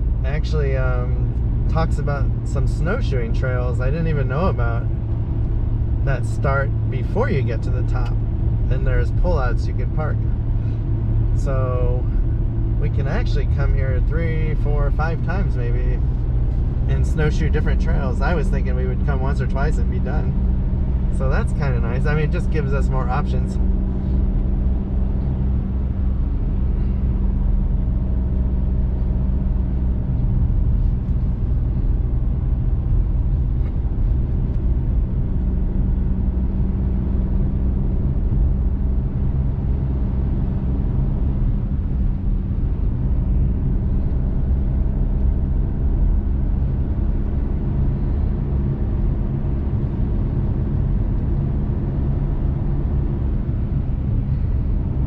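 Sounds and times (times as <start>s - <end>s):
pickup truck engine drone: 0.0s - 55.0s.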